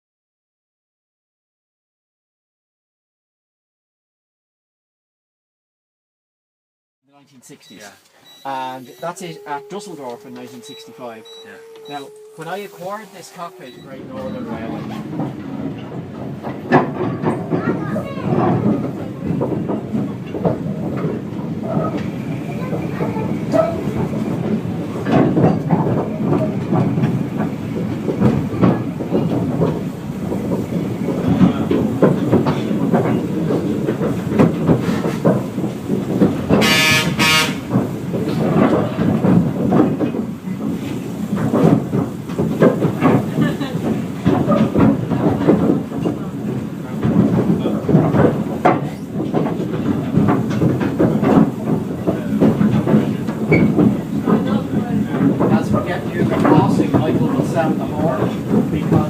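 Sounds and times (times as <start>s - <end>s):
train rumble: 7.2s - 59.0s
train wheels clattering on rails: 7.6s - 59.0s.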